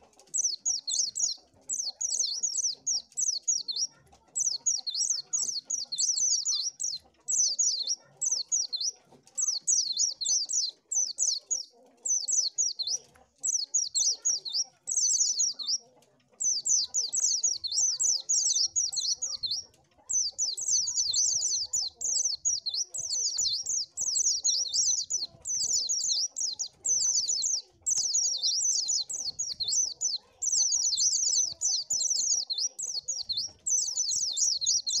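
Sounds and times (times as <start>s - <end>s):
bird twittering: 0.0s - 35.0s.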